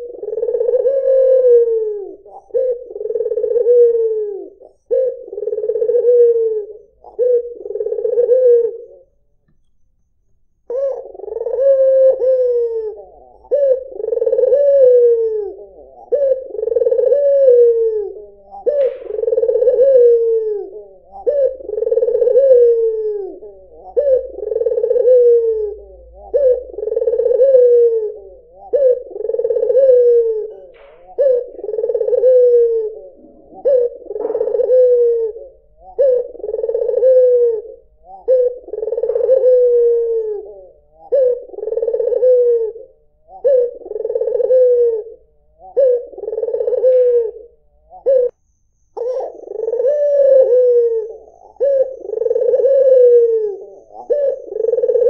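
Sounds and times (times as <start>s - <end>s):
dove cooing: 0.0s - 9.2s, 10.6s - 55.0s.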